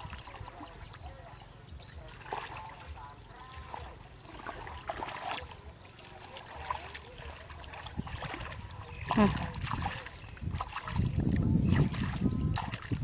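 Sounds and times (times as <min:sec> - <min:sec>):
hands sloshing in muddy water: 0:00.0 - 0:13.0.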